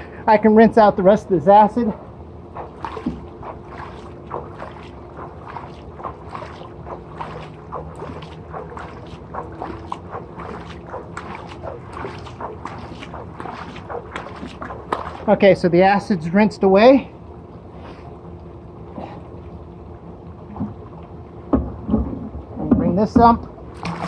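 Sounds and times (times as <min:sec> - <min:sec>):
water splashing and sloshing: 0:01.0 - 0:24.0.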